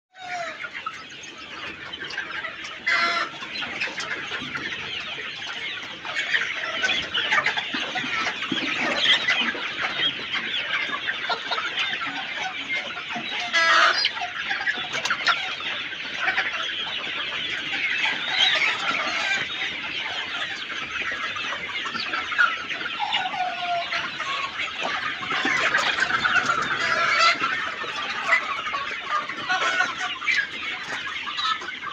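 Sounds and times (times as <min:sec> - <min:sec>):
chickens clucking: 0:00.2 - 0:31.9.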